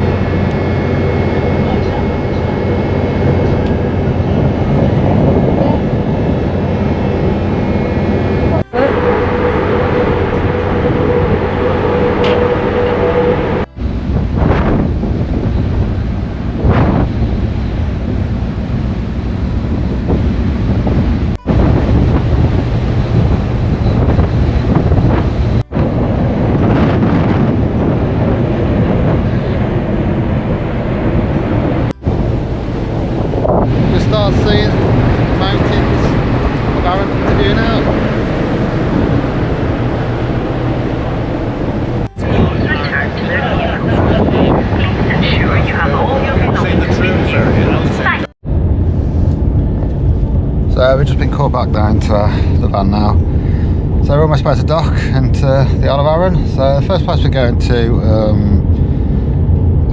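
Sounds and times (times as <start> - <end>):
ship engines droning: 0.0 - 59.9
wind noise on microphone: 0.0 - 59.9.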